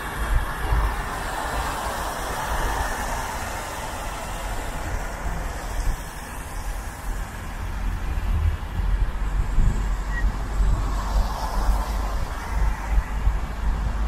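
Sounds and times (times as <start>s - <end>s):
road and engine rumble: 0.0s - 14.0s
tyres hissing on wet road: 0.0s - 14.0s.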